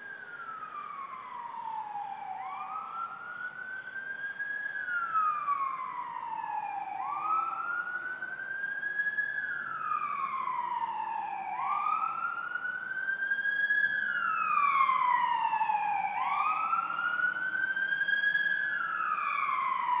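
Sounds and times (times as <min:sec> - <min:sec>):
emergency siren wailing: 0:00.0 - 0:20.0.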